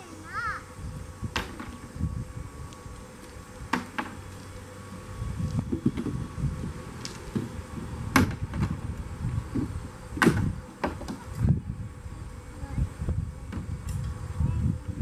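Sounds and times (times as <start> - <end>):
wind buffeting microphone: 0.4 - 3.7, 4.9 - 15.0.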